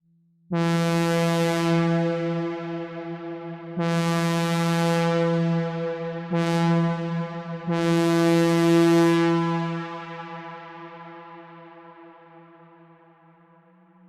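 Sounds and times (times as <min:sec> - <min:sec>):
synthesized locomotive air horn: 0:00.6 - 0:12.1.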